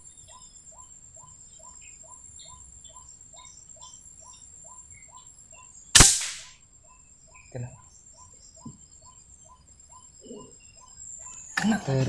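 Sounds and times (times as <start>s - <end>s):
faint chirps: 0.0s - 12.0s.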